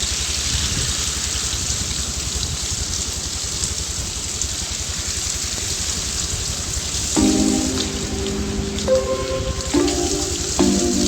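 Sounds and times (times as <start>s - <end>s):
hiss of falling wet snow: 0.0s - 11.0s.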